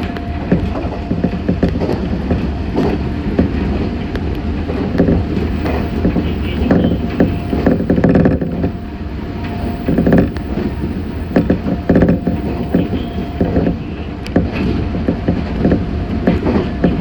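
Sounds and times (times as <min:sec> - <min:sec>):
train rumbling at speed: 0:00.0 - 0:17.0
wheels clattering on track: 0:00.0 - 0:17.0.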